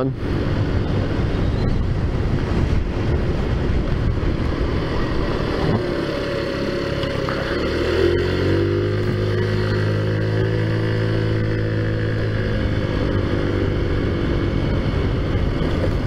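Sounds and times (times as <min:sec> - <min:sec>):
wind noise on microphone: 0:00.0 - 0:07.4, 0:10.0 - 0:16.0
scooter engine running: 0:00.4 - 0:16.0.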